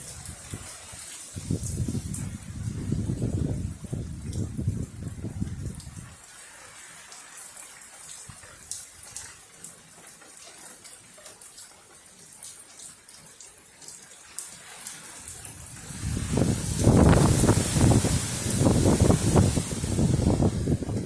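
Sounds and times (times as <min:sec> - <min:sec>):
water trickling and dripping: 0:00.0 - 0:21.0.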